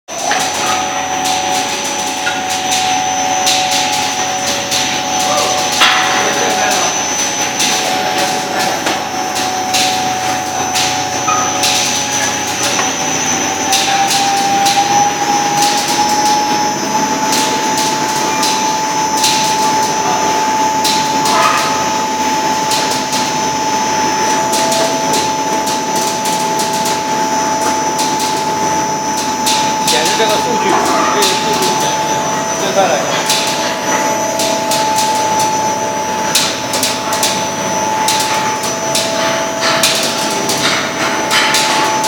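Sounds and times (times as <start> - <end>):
duct forming machine whine: 0.1 - 42.0
mechanical hum: 0.1 - 42.0.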